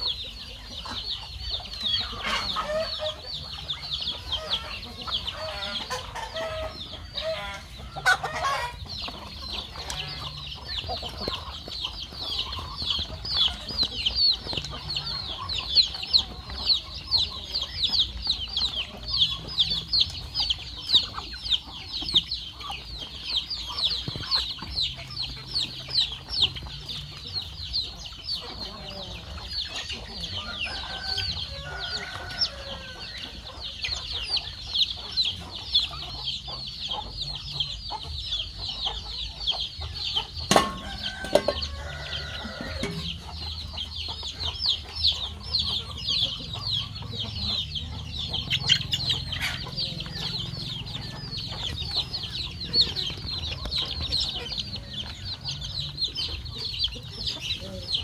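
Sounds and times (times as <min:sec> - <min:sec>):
chicks peeping: 0:00.0 - 0:58.0
hen clucking: 0:00.0 - 0:58.0.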